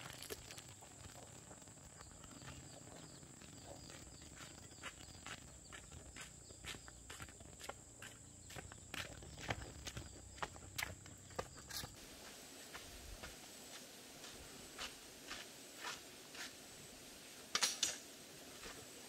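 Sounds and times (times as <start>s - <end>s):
sandal footsteps on dirt road: 0.0s - 16.7s.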